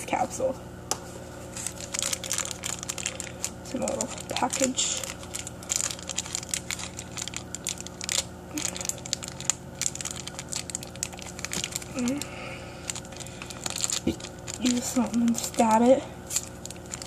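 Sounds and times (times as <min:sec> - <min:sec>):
plastic package crinkling: 0:01.5 - 0:17.0.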